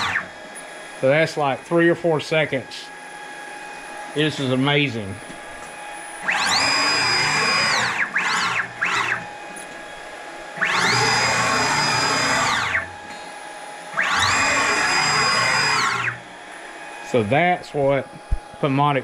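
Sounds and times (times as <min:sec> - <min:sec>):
stepper motors whining: 0:00.0 - 0:18.4.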